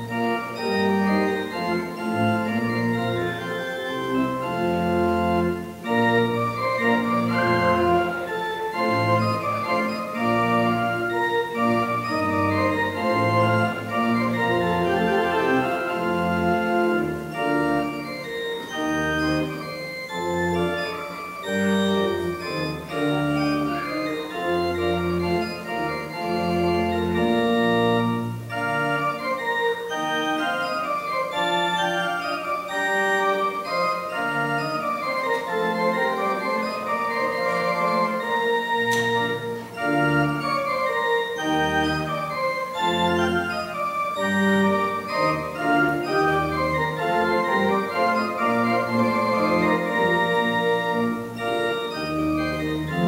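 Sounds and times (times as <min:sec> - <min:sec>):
church organ playing: 0:00.0 - 0:53.0.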